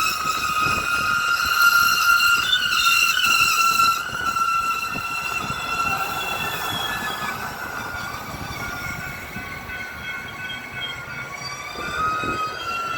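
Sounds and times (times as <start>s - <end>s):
rumble of wheels on rails: 0.0s - 12.9s
train wheels squealing: 0.0s - 12.9s.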